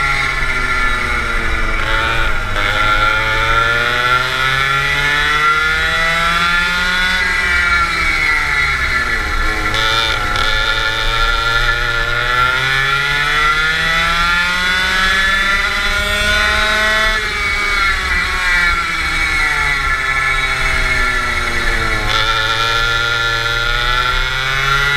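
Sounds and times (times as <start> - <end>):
go-kart engine revving: 0.0 - 24.9.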